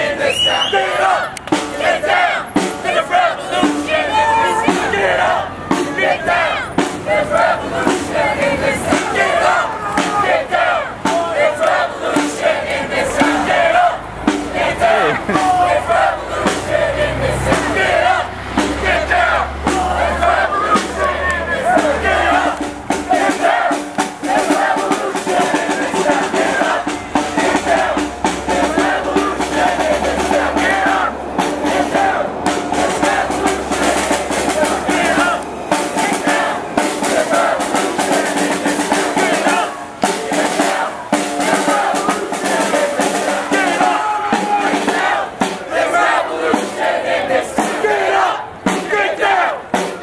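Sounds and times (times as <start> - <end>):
crowd calling out together: 0.0 - 50.0
drums beaten: 0.0 - 50.0.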